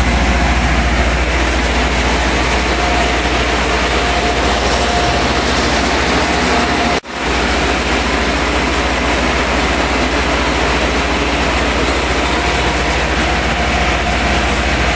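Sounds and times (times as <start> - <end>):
pulverizer machine whining and humming: 0.0 - 14.9.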